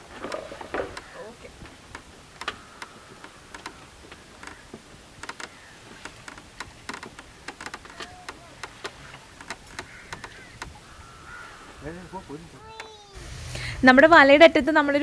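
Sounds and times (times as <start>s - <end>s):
faint bird calls: 0.2s - 13.2s.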